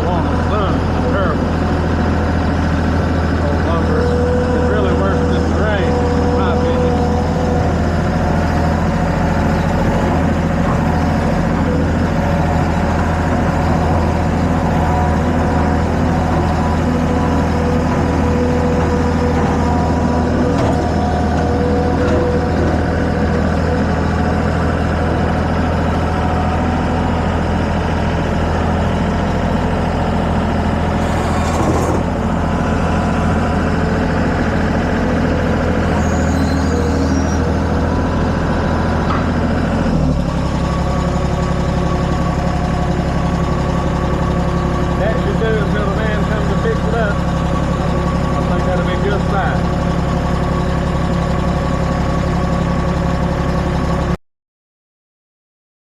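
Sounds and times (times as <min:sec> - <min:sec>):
heavy machine engine running: 0:00.0 - 0:54.2.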